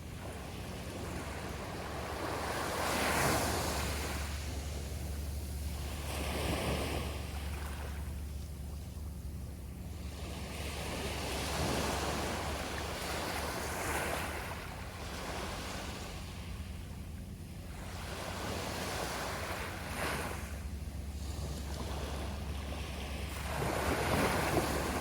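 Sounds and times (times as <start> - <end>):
sea waves breaking on shore: 0.0 - 25.0
wind rumble on microphone: 0.0 - 25.0.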